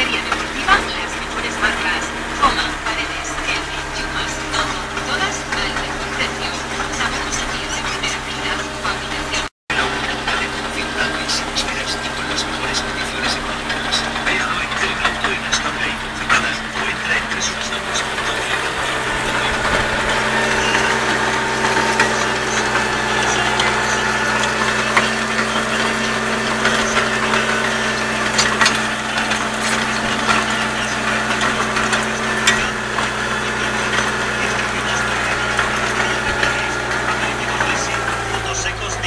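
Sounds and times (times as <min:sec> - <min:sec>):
sharp ticks and rattles: 0:00.0 - 0:39.0
tractor diesel engine running: 0:00.0 - 0:39.0.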